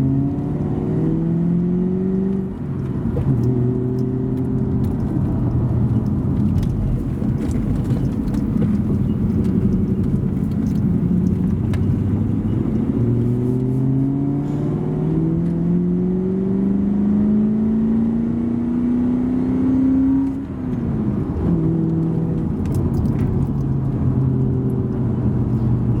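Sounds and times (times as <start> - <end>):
car engine running and revving: 0.0 - 26.0.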